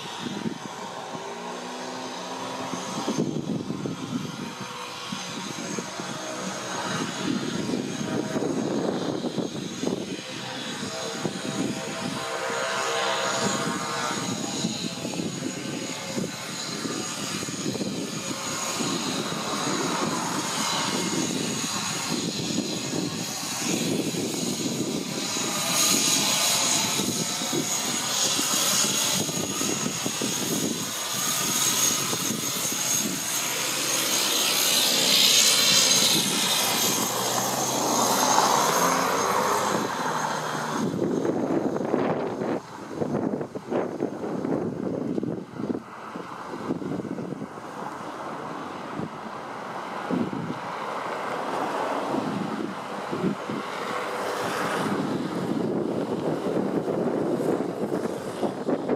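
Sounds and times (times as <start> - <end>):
propeller noise: 0.0 - 58.9
turboprop turbine whine: 0.0 - 58.9.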